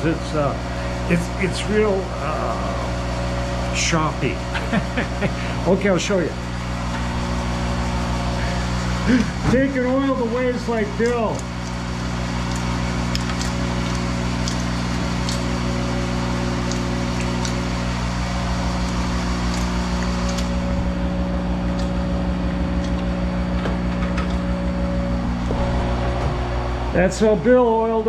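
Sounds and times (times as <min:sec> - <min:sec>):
lathe humming: 0:00.0 - 0:28.0.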